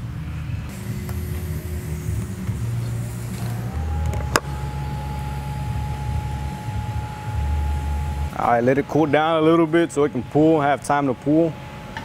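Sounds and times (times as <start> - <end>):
low machine hum: 0.0 - 12.0
welding arc: 0.7 - 11.5
steady high tone: 0.7 - 11.7.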